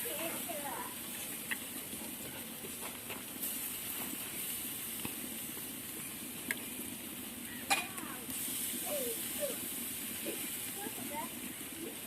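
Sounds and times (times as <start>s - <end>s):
campfire hissing: 0.0s - 12.0s
faint fire crackles: 0.0s - 12.0s.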